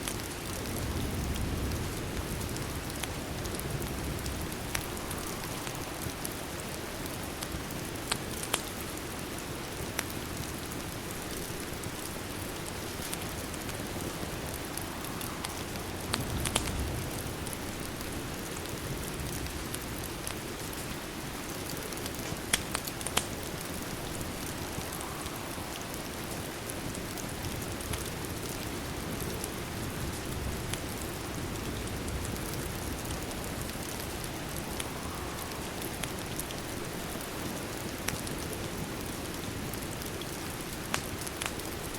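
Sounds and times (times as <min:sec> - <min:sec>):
fireplace crackling and popping: 0:00.0 - 0:41.9
steady rain: 0:00.0 - 0:41.9.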